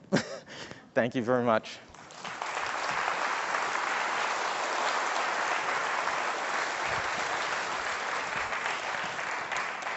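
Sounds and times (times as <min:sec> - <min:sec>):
audience applauding: 0:01.9 - 0:09.9.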